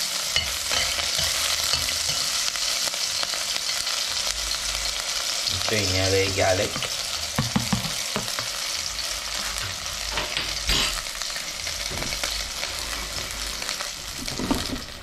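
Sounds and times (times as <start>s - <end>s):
garlic and onion sizzling in oil: 0.0s - 15.0s.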